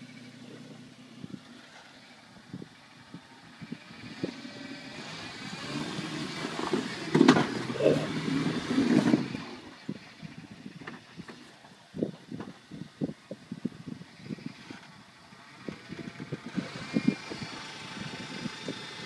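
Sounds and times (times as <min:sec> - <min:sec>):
vehicle engine running low: 0:00.0 - 0:19.0.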